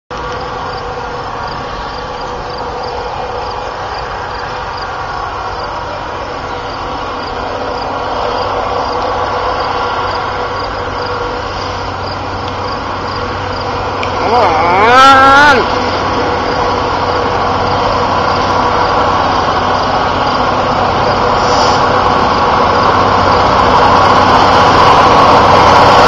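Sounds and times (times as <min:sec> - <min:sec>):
diesel locomotive engine drone: 0:00.1 - 0:26.0.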